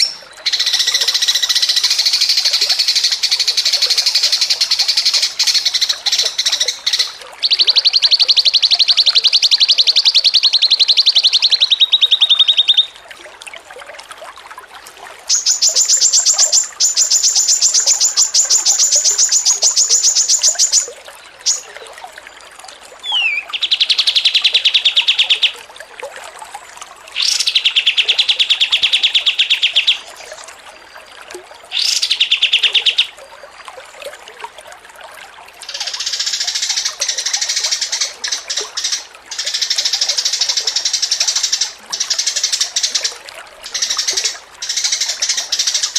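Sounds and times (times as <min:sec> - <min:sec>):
songbird singing rapid trills: 0:00.0 - 0:13.0, 0:15.3 - 0:21.8, 0:23.0 - 0:25.6, 0:27.2 - 0:30.4, 0:31.7 - 0:33.2, 0:35.6 - 0:45.9.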